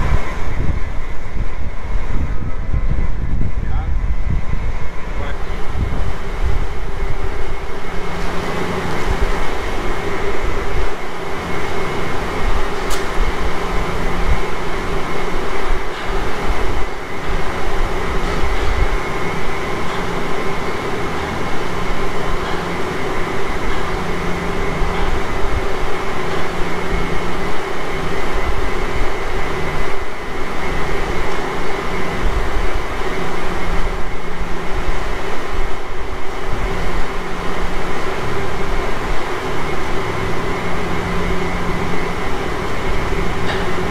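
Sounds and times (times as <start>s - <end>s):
machinery drone: 0.0s - 43.9s.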